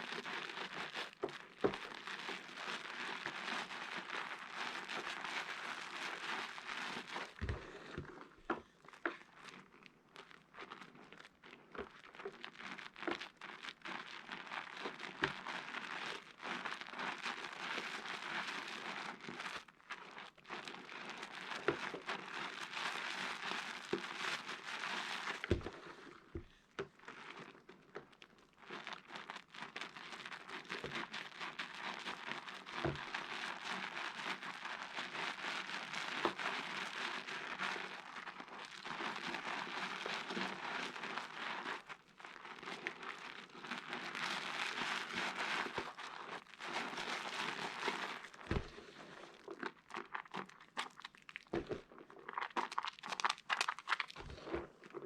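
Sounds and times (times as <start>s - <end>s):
wet crackling of soap lather: 0.0s - 55.0s.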